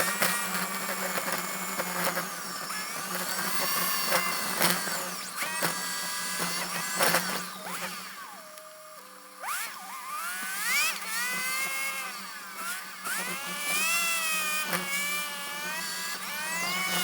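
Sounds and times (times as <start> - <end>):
mechanical whine: 0.0 - 17.0.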